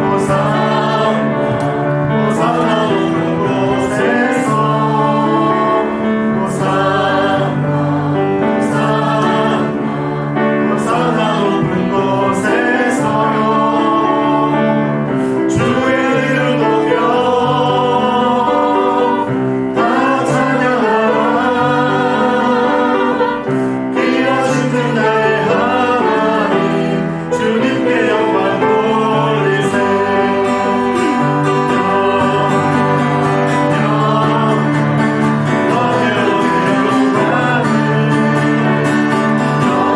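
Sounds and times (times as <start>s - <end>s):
choir singing worship song: 0.0s - 39.9s.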